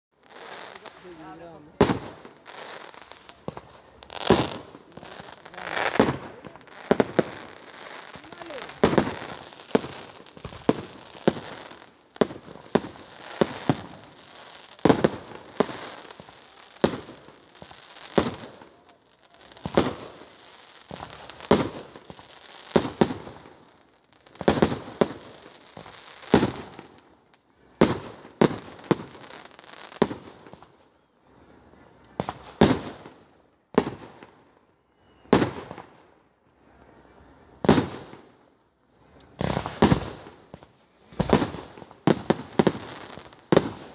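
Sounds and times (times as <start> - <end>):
fireworks bursting with sharp bangs: 0.2 - 31.0, 32.1 - 36.2, 37.6 - 38.4, 39.2 - 43.9.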